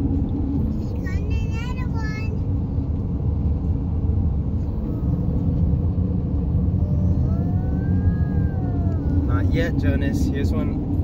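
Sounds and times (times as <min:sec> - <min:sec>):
engine and tyre rumble in car: 0:00.0 - 0:11.0.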